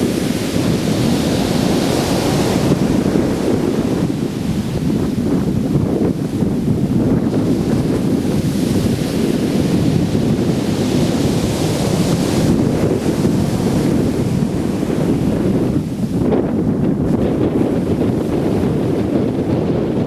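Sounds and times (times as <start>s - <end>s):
surf washing on beach: 0.0s - 20.0s
wave breaking: 0.0s - 20.0s
wind buffeting microphone: 0.0s - 20.0s.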